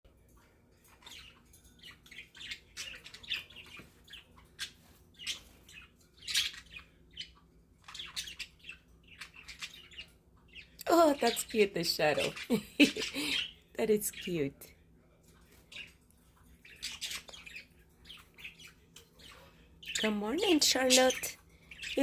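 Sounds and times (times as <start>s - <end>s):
budgerigars chirping: 1.0s - 14.5s, 16.6s - 22.0s.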